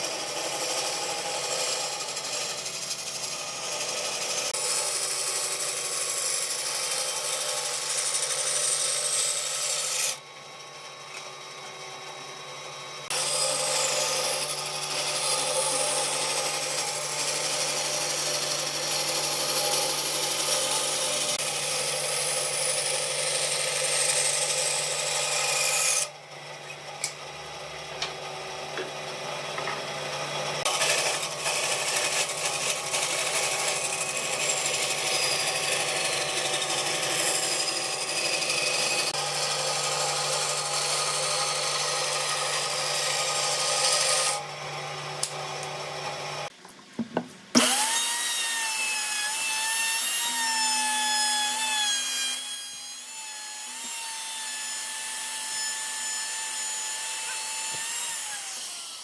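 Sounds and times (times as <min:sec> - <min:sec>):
bandsaw cutting wood: 0:00.0 - 0:46.6, 0:47.5 - 0:59.0
router whining: 0:00.0 - 0:46.6, 0:47.5 - 0:59.0.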